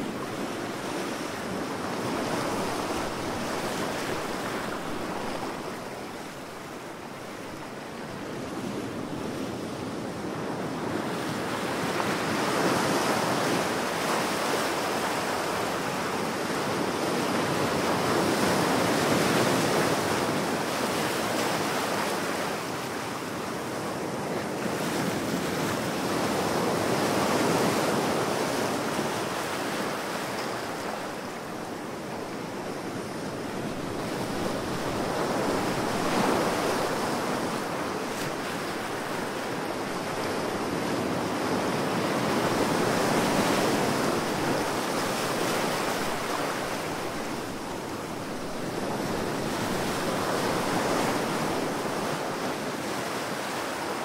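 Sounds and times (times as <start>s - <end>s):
ocean waves breaking: 0.0s - 16.3s, 23.9s - 54.0s.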